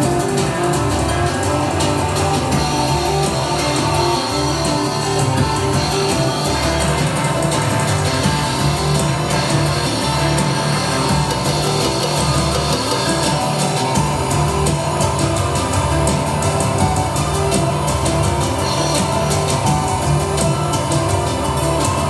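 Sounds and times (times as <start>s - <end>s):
drum kit beating: 0.0s - 22.0s.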